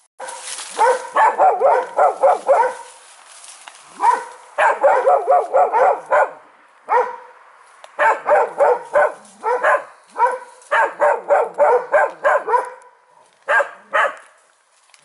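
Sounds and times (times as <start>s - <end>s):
dog barking: 0.2s - 2.9s, 4.0s - 7.4s, 8.0s - 14.3s.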